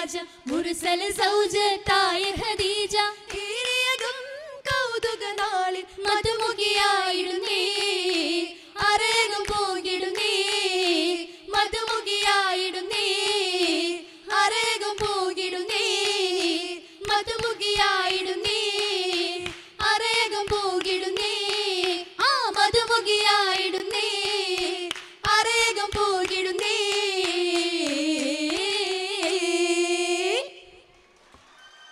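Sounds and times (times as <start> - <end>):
rhythmic handclaps: 0.0 - 30.3
girls singing: 0.0 - 30.9.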